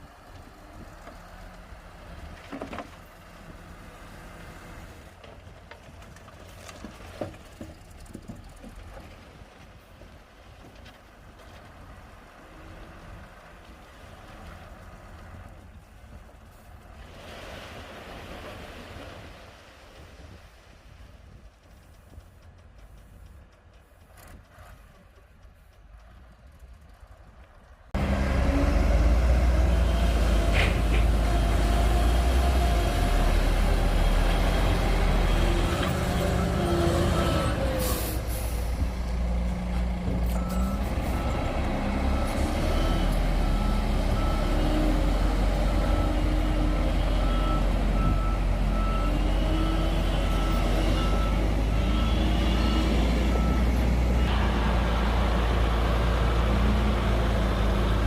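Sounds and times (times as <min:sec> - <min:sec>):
bulldozer diesel engine under load: 0:00.0 - 0:17.0, 0:21.2 - 0:58.0.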